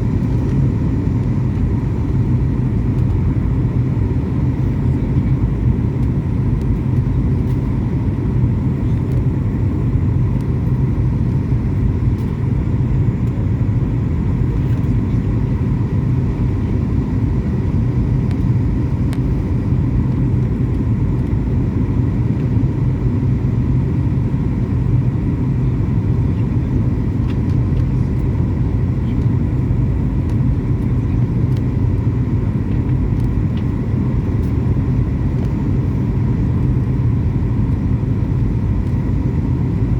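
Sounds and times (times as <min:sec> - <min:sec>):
airliner cabin rumble: 0:00.0 - 0:39.9
faint steady whine: 0:00.0 - 0:39.9.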